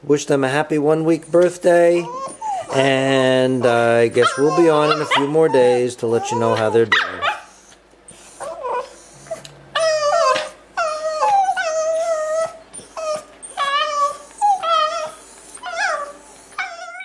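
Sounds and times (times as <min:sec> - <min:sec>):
dog whining: 0:01.1 - 0:17.0.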